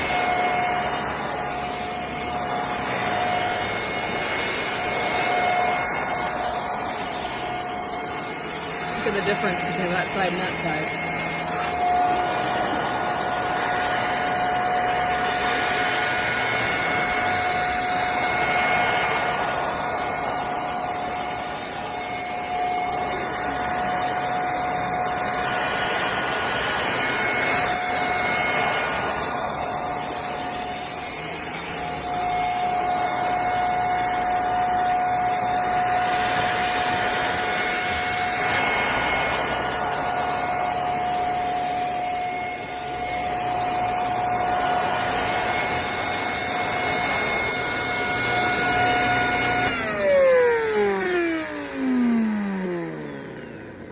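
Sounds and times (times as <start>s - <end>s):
handheld vacuum cleaner running: 0.0s - 53.9s.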